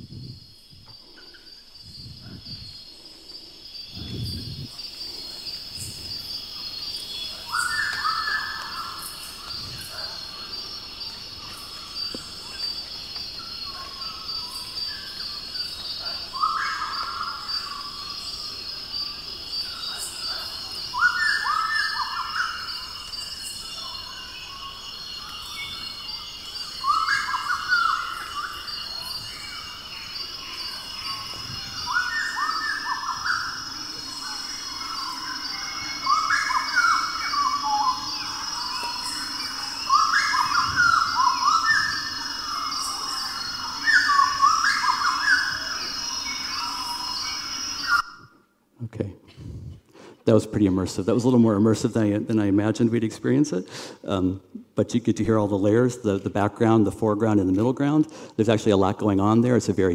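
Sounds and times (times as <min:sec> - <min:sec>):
bird singing: 0:00.0 - 0:48.4
high insect chorus: 0:00.0 - 0:59.9.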